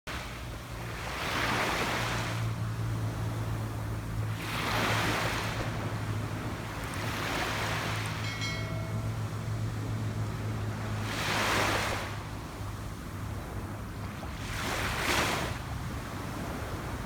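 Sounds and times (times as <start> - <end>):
ocean waves breaking: 0.2 - 17.0.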